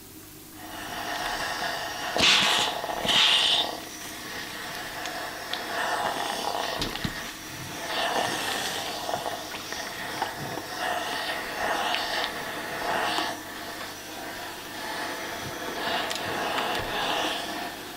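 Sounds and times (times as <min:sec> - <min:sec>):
steam iron hissing puffs: 0:00.5 - 0:17.9.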